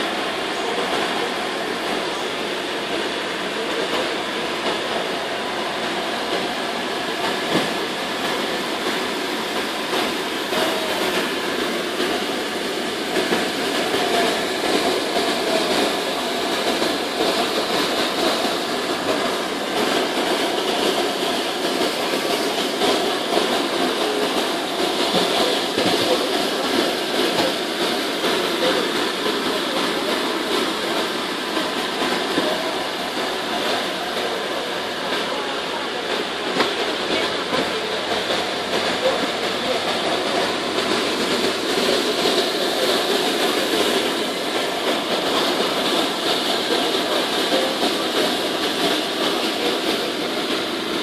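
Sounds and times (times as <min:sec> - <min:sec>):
floor machine humming: 0:00.0 - 0:51.0.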